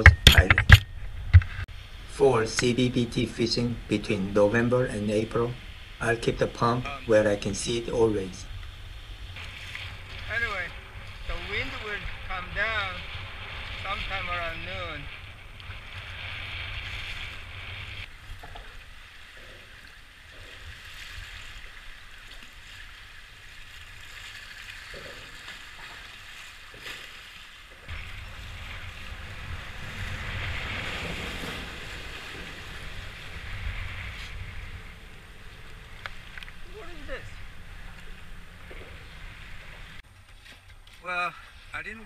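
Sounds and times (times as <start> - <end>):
wind buffeting microphone: 0.0 - 26.7, 27.7 - 40.2
water slapping against kayak hull: 6.5 - 41.7.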